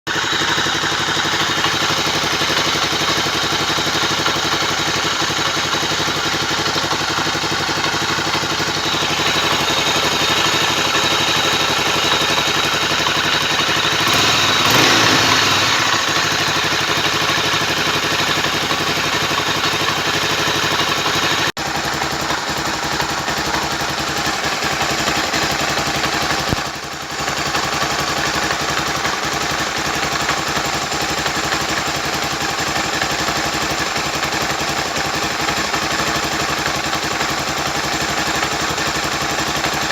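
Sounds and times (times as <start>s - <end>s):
motorcycle engine idling: 0.1s - 39.9s.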